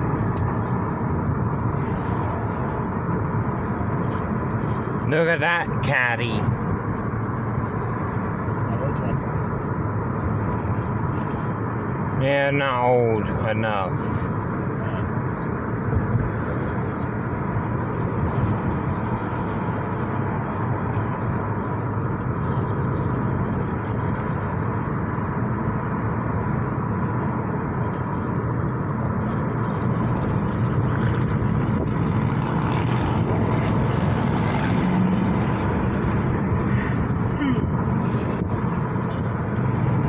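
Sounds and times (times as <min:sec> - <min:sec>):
vehicle rumble: 0:00.0 - 0:40.0.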